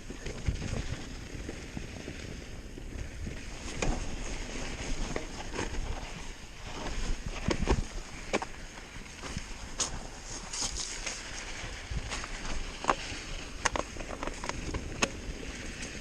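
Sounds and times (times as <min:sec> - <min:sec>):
bike tyres on dirt trail: 0:00.0 - 0:16.0
wind on microphone: 0:00.0 - 0:16.0
bike frame knocking and rattling: 0:02.9 - 0:16.0.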